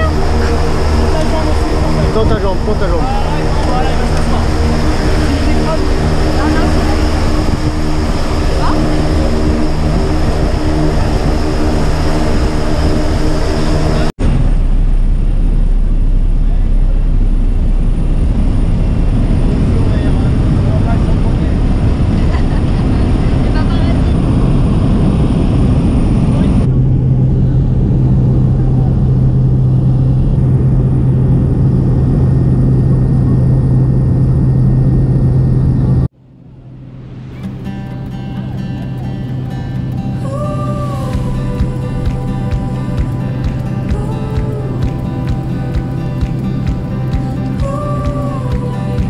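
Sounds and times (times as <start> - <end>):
propeller plane engine drone: 0.0 - 49.0.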